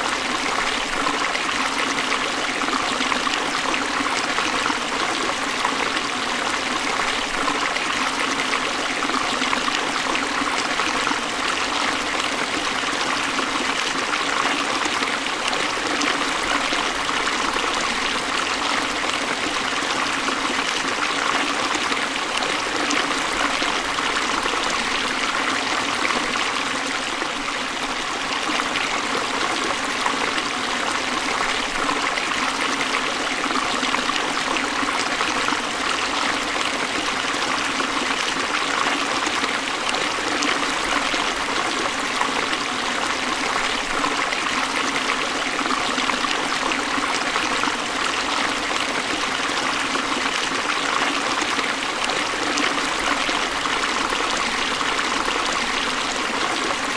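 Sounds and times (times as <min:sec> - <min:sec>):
stream flowing over rocks: 0:00.0 - 0:56.9.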